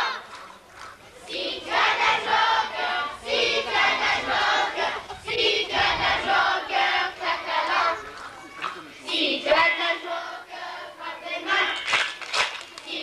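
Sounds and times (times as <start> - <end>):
young children singing: 1.2 - 11.9.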